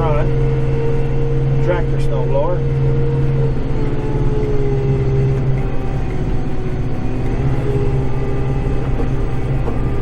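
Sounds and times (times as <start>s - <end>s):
tractor diesel engine from cab: 0.0s - 10.0s.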